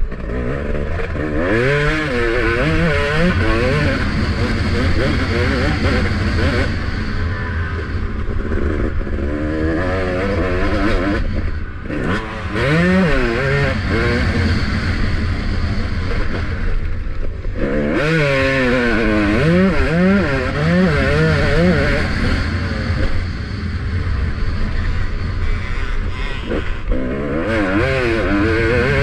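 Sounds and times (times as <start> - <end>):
motocross bike engine revving: 0.0 - 29.0.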